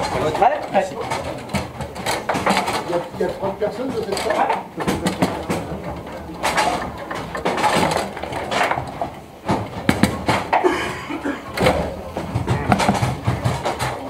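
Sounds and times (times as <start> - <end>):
foosball clacks and knocks: 0.0 - 14.0.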